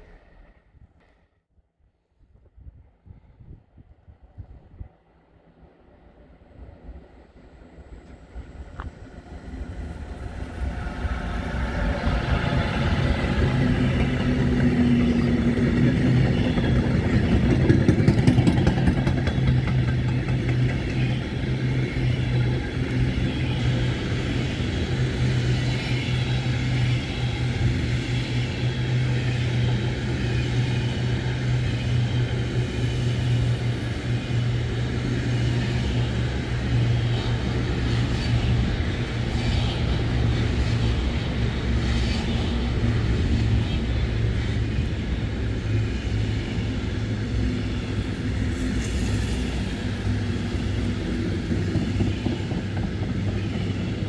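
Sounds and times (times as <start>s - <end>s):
locomotive hum: 6.8s - 54.0s
freight wagons rumbling on rails: 7.9s - 54.0s.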